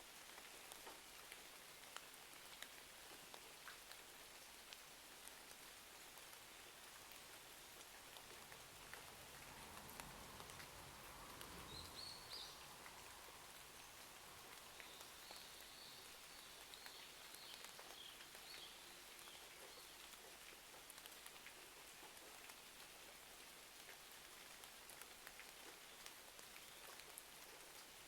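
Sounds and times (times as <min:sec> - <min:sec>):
crackles and drips: 0:00.0 - 0:28.0
faint steady rain: 0:00.0 - 0:28.0.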